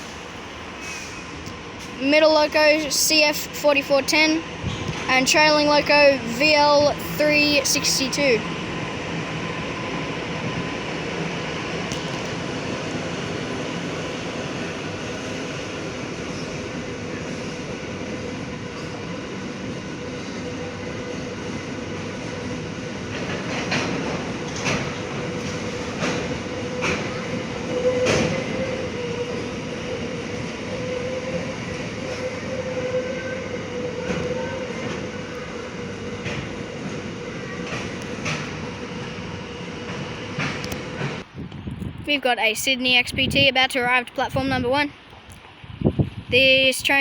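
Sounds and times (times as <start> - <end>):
train rumble: 0.0 - 47.0
train wheels clacking on rails: 0.8 - 41.3.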